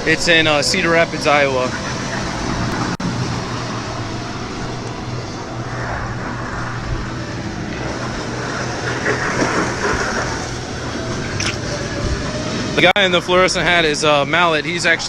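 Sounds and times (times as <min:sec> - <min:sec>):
go-kart motors humming: 0:00.0 - 0:15.0.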